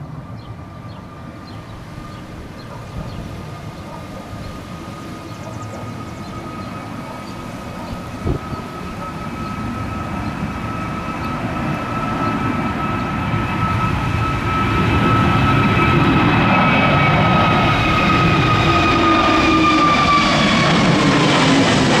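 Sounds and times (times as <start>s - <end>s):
high steady engine whine: 0.0s - 22.0s
jet engines at takeoff power: 0.0s - 22.0s.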